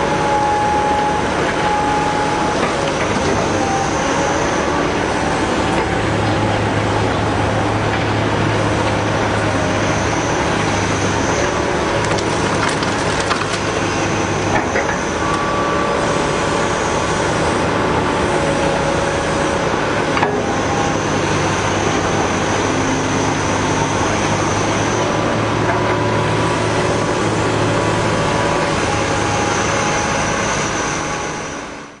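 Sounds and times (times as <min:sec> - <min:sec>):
excavator engine droning: 0:00.0 - 0:32.0
hydraulic whine: 0:00.0 - 0:32.0.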